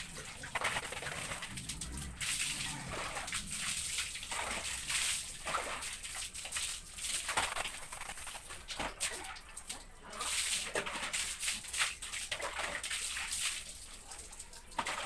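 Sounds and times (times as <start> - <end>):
water pouring from dipper: 0.0 - 15.0
water splashing on tiled floor: 0.0 - 15.0.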